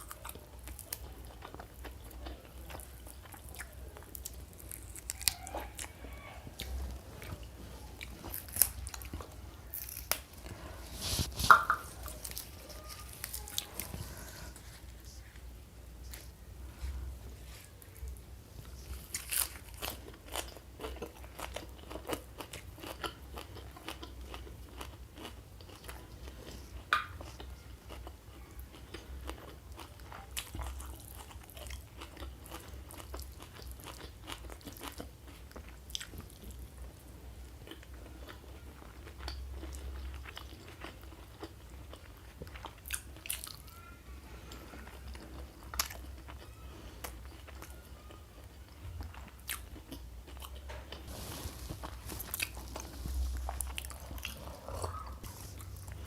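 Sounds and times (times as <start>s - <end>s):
crunchy chewing: 0.0s - 15.2s, 18.6s - 36.6s, 37.6s - 56.0s.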